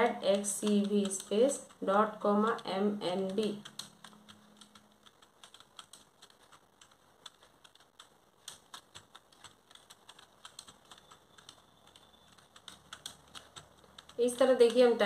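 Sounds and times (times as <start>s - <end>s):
computer keyboard typing: 0.0s - 15.0s.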